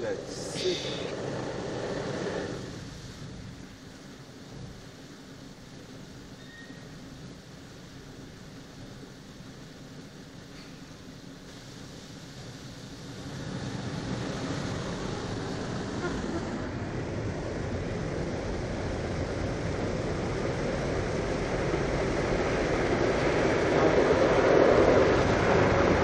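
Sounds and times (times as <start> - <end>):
car wash brushes and spray: 0.0 - 6.3, 7.2 - 26.0.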